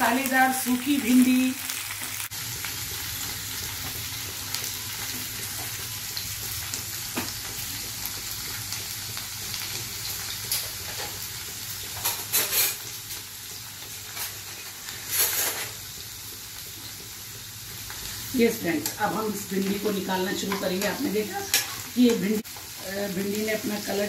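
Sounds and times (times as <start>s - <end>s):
okra sizzling in oil: 0.0s - 24.0s.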